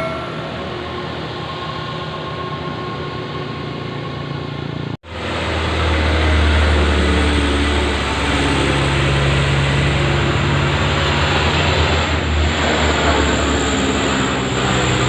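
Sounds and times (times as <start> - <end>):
mechanical and tyre noise: 0.0 - 15.0.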